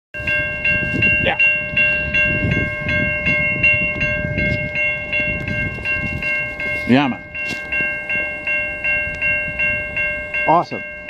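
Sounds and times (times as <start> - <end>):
level-crossing warning bell ringing: 0.1 - 11.0.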